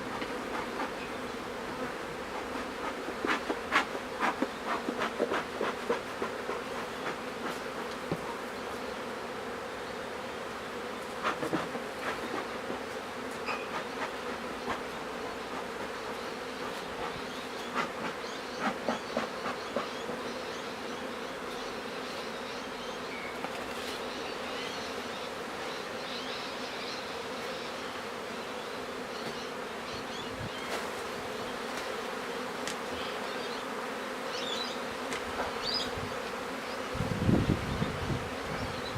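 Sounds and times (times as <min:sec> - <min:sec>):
honeybee colony buzzing: 0:00.0 - 0:38.9.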